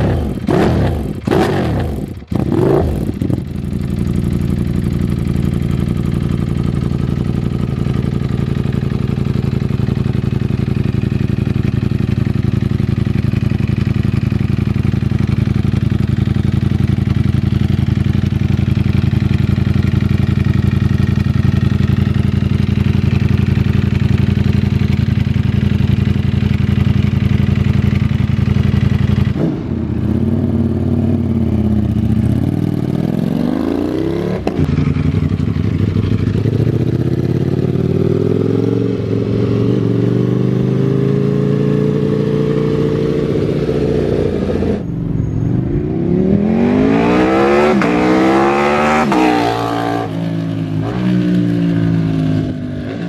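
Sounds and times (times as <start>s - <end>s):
motorcycle engine idling and revving: 0.0s - 53.0s.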